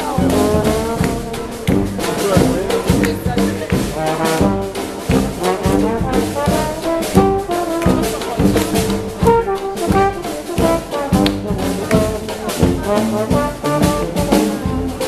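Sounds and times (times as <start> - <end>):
bass drum beat: 0.0 - 15.0
saxophone: 0.0 - 15.0
trombone: 0.0 - 15.0.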